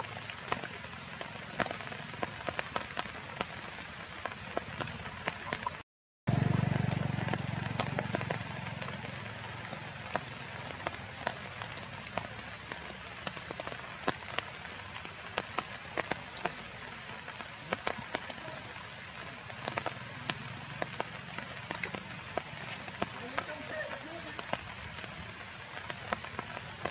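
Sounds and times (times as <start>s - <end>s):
rain hissing through foliage: 0.0s - 26.9s
raindrops ticking on leaves: 0.0s - 26.9s.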